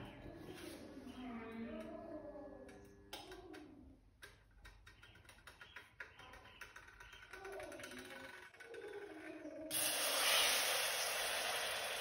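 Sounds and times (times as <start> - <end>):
faint music: 0.0 - 9.7.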